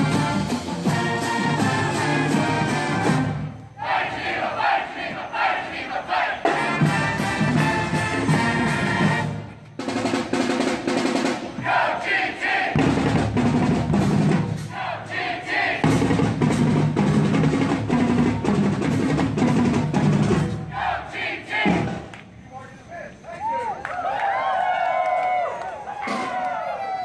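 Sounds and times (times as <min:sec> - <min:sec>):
marching band playing: 0:00.0 - 0:22.2.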